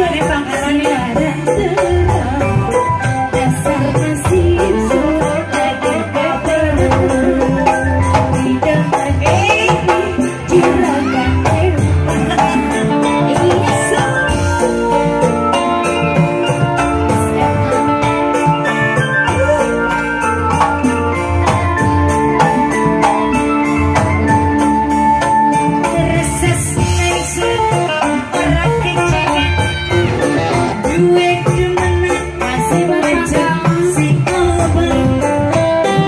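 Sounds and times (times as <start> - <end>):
electric guitar melody: 0.0 - 36.0
hand drums and tambourine beat: 0.0 - 36.0
keyboard melody: 0.0 - 36.0.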